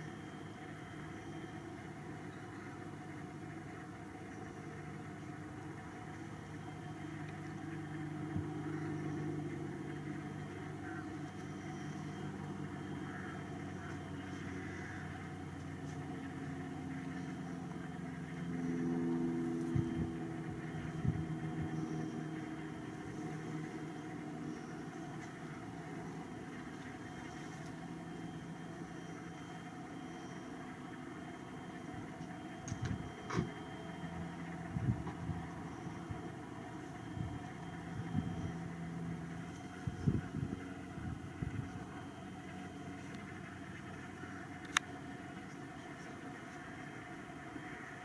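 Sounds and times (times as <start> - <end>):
engine humming: 0.0 - 48.0.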